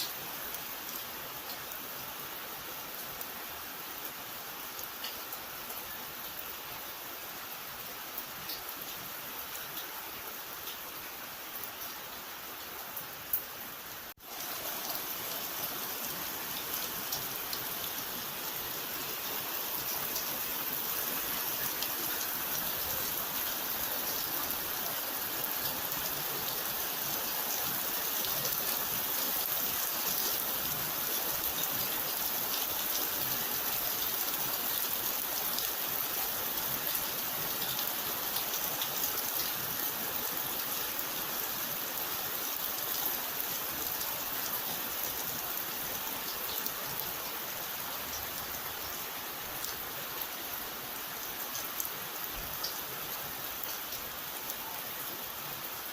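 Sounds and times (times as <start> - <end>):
rain pattering: 0.0 - 6.9, 7.6 - 55.9.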